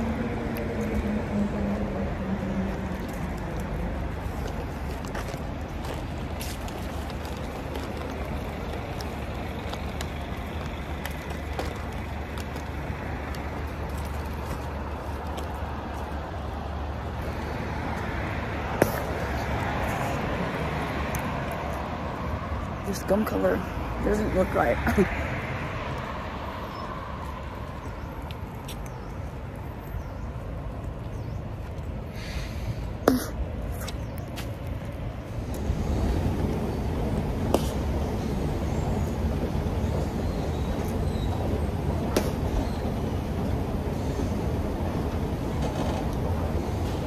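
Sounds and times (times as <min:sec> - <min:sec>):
city street traffic rumble: 0:00.0 - 0:47.0.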